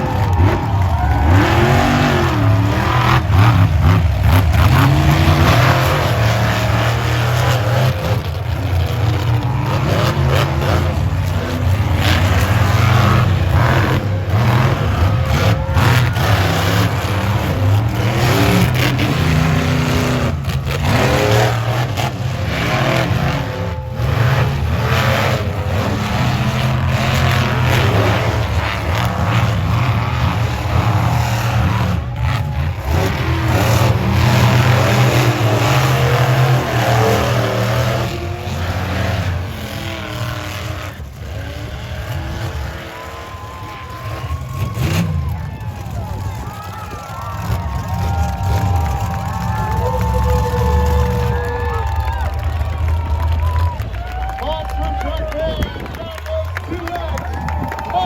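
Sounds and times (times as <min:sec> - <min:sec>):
monster truck engine revving: 0:00.0 - 0:58.0.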